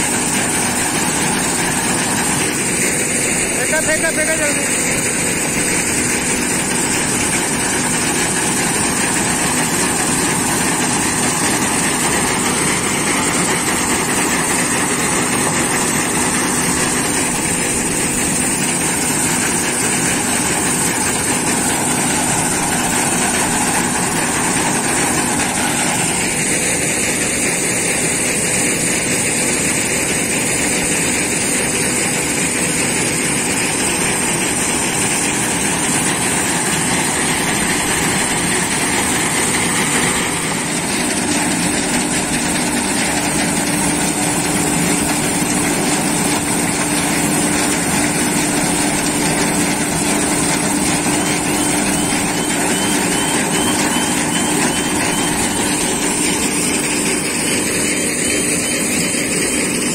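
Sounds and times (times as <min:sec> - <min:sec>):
combine harvester threshing: 0:00.0 - 0:59.9.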